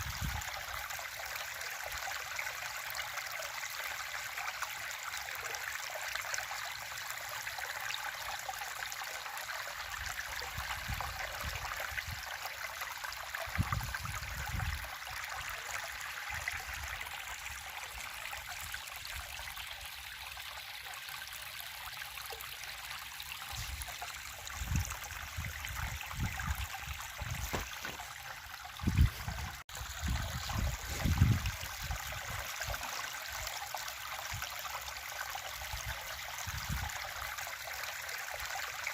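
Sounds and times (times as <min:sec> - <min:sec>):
river water flowing: 0:00.0 - 0:14.2, 0:14.8 - 0:38.9.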